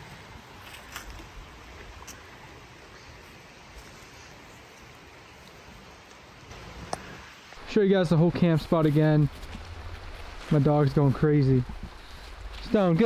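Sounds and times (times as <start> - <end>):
creek rushing: 1.2 - 13.0.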